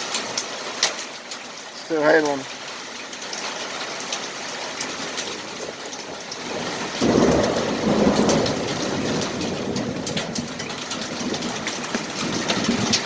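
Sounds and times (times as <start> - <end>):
rain and hail pattering: 0.0 - 13.0.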